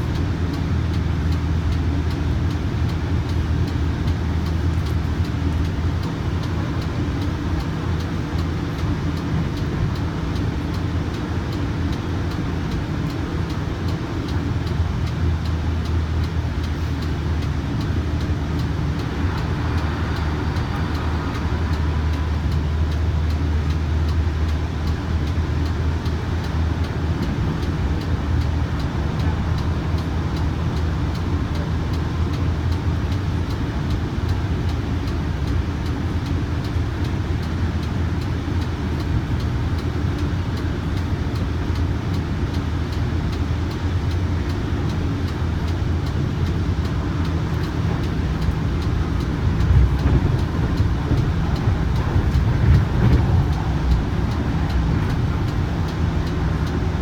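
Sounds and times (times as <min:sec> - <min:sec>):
rumble of train wheels on rails: 0:00.0 - 0:57.0.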